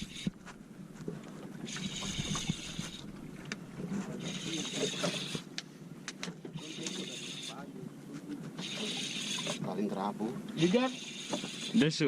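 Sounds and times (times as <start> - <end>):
boat engine running: 0.0 - 12.0
wind: 0.0 - 12.0.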